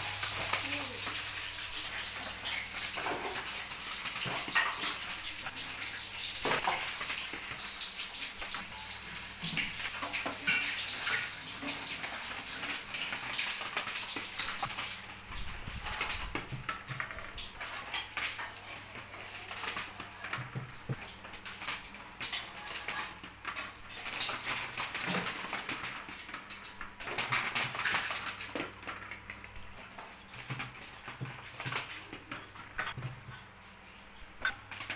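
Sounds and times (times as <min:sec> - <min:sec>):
plastic balls clattering: 0:00.0 - 0:33.4.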